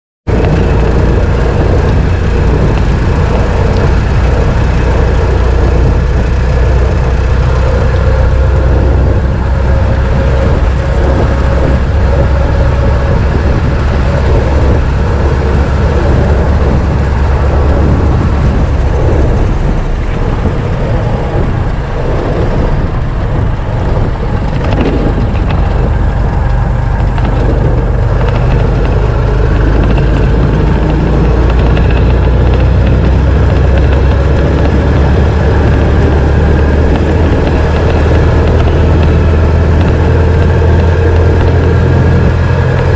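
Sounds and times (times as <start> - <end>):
car engine droning with whine: 0.3 - 42.9.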